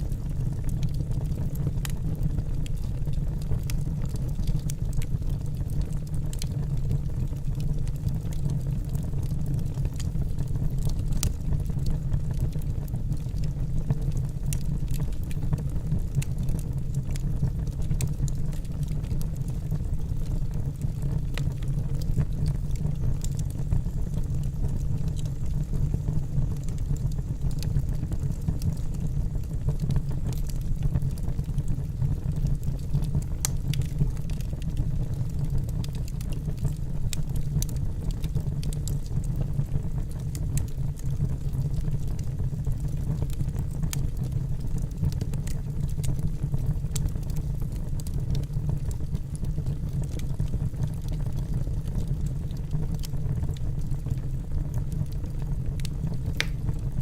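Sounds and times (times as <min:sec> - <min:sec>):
low roar of flames: 0:00.0 - 0:57.0
wood fire crackling and popping: 0:00.0 - 0:57.0.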